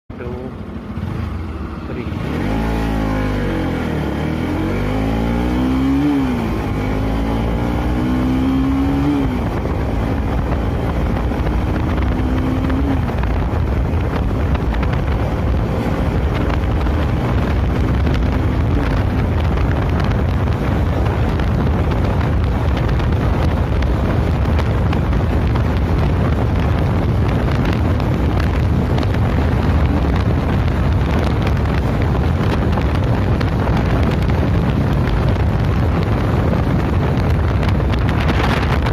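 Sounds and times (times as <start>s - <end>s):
motorcycle engine accelerating: 0.1s - 38.9s
wind rush on microphone: 0.1s - 38.9s.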